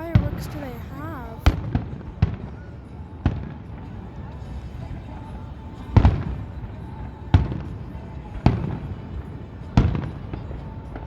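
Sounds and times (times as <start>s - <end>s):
firework booms: 0.0s - 11.0s.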